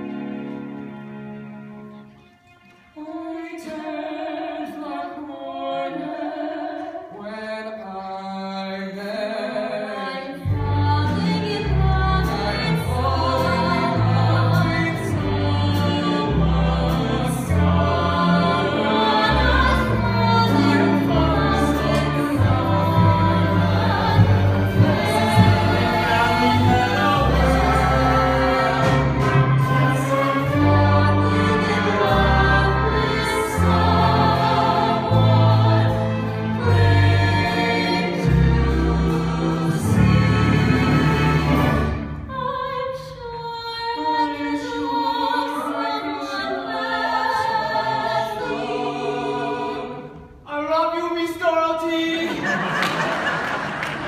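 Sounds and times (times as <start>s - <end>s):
pit orchestra: 0.0s - 54.0s
voices singing together: 3.0s - 50.7s.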